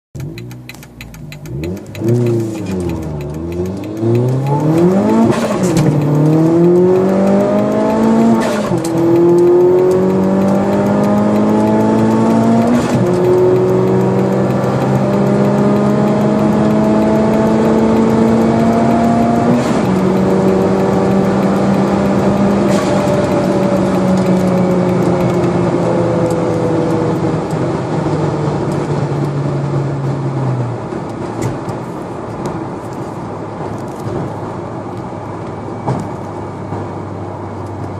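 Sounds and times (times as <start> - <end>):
car engine accelerating: 0.2 - 37.9.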